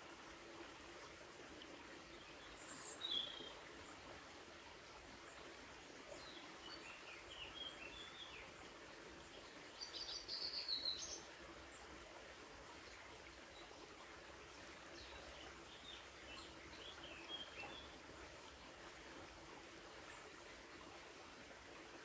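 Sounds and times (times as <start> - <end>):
stream trickling: 0.0 - 22.0.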